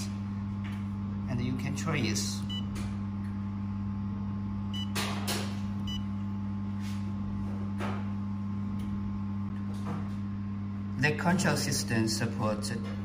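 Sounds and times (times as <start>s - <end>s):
welding machine electrical hum: 0.0s - 13.0s.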